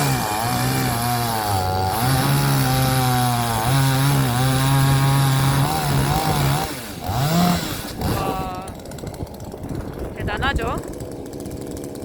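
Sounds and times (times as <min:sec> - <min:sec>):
chainsaw cutting log: 0:00.0 - 0:12.0.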